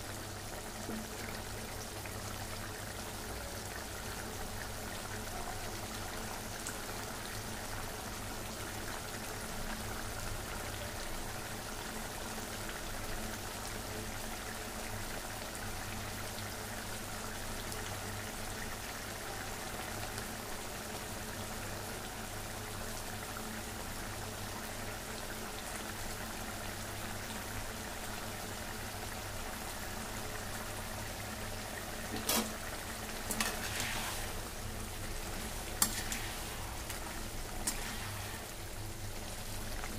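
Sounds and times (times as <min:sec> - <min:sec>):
curry bubbling in a pan: 0:00.0 - 0:39.9.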